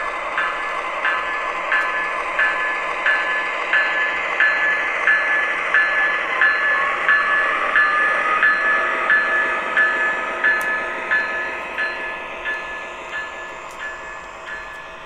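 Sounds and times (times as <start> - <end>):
locomotive bell ringing: 0.0 - 15.0.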